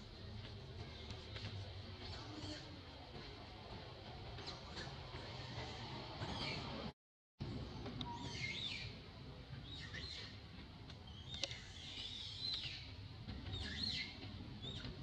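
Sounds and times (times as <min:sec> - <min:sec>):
low outdoor rumble: 0:00.0 - 0:12.2.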